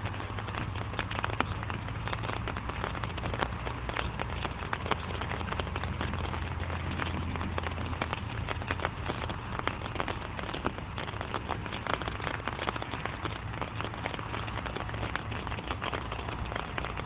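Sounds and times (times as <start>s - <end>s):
raindrops tapping: 0.0s - 17.0s.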